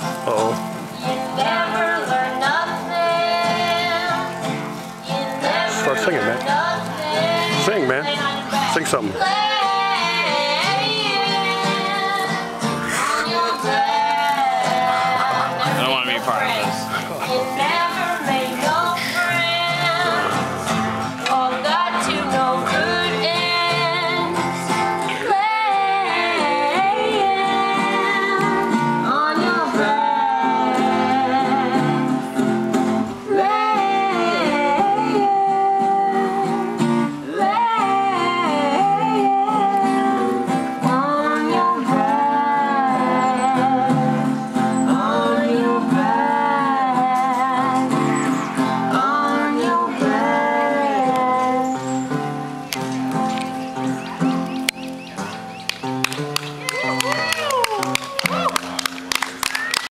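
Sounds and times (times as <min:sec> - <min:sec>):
people singing: 0:00.0 - 0:52.5
acoustic guitar strumming: 0:00.0 - 0:59.3.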